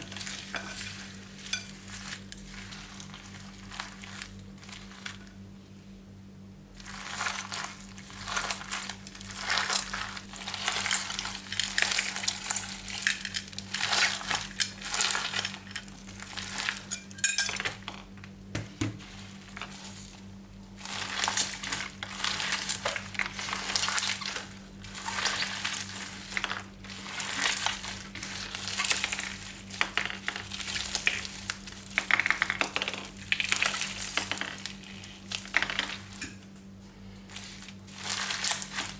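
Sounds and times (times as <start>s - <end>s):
crunchy slime crackling and popping: 0.0s - 5.6s, 6.7s - 38.9s.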